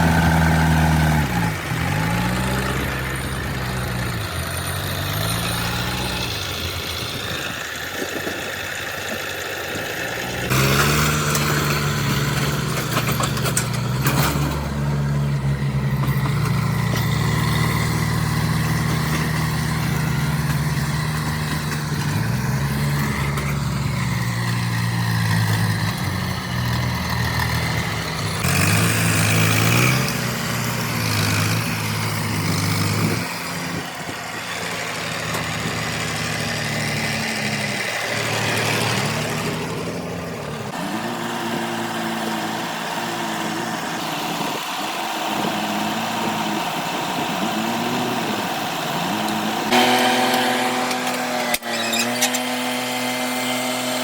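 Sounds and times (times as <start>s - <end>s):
diesel engine revving: 0.0s - 54.0s.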